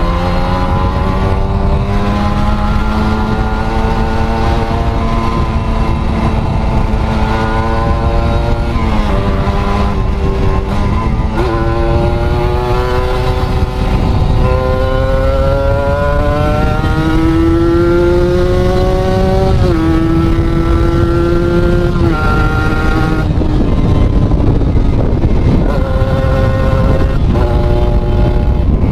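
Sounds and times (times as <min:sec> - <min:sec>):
motorcycle engine pulling under throttle: 0:00.0 - 0:28.9.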